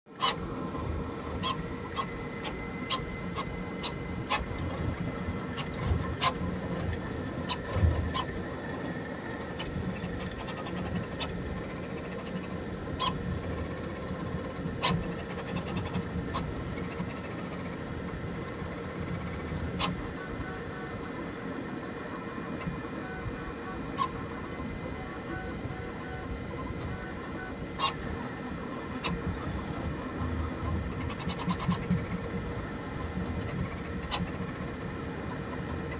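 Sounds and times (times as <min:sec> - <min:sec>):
printer motor and fan hum: 0:00.1 - 0:35.9.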